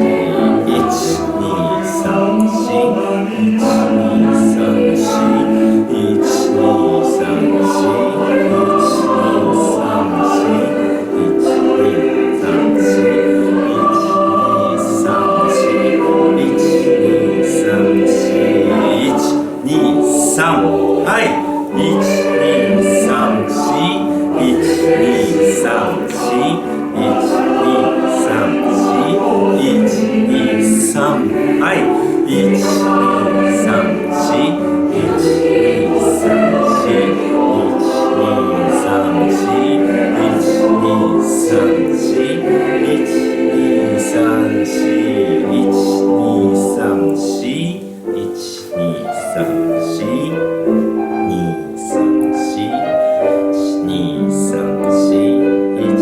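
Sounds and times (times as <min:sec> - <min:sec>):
choir singing: 0:00.0 - 0:56.0
piano accompaniment: 0:00.0 - 0:56.0.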